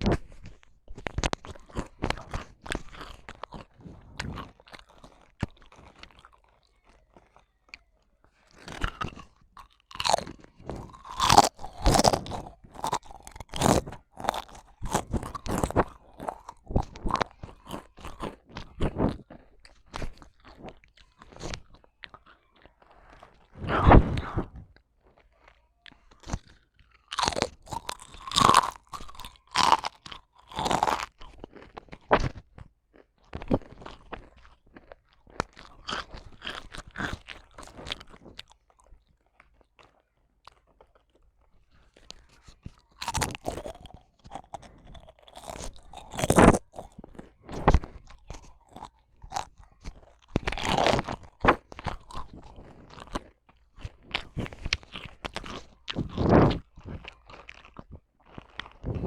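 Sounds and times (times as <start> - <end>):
crunching and chewing: 0.0 - 59.0.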